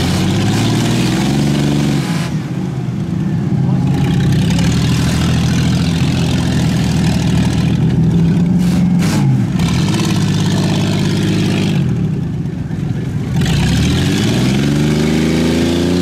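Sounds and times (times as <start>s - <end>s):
truck engine revving hard: 0.0s - 2.8s, 3.6s - 12.2s, 12.9s - 16.0s.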